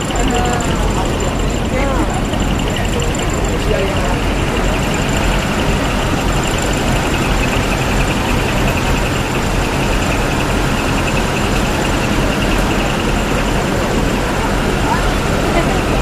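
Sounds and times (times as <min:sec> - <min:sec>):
diesel truck engines running: 0:00.0 - 0:16.0.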